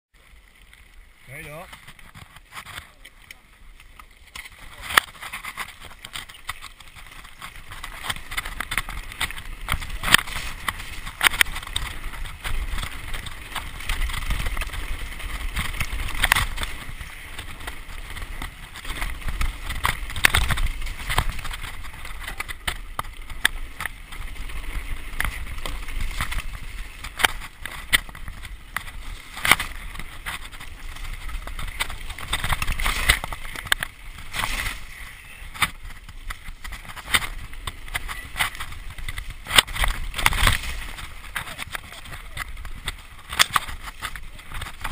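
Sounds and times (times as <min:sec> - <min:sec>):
bike tyres rolling on dirt: 0:00.1 - 0:44.9
bike clattering and rattling: 0:00.2 - 0:44.9
wind rush on microphone: 0:04.4 - 0:44.9.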